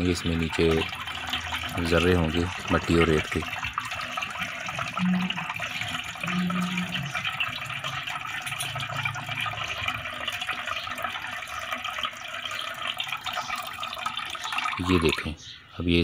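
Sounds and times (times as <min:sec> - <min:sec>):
liquid pouring: 0:00.0 - 0:15.4.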